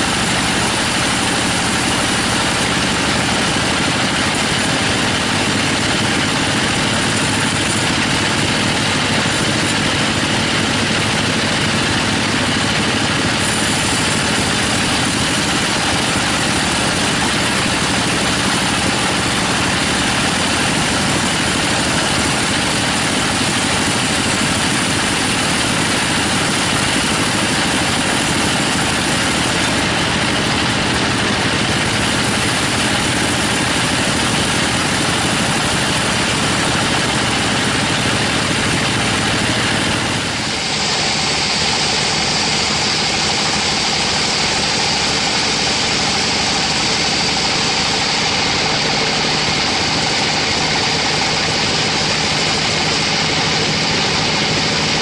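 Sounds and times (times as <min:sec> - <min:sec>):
bandsaw cutting log: 0:00.0 - 0:55.0.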